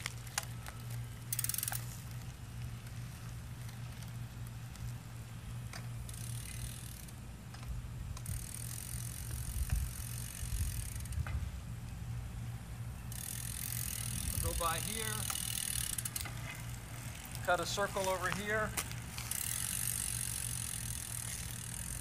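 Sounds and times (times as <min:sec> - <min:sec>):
trike rolling on asphalt: 0:00.0 - 0:22.0.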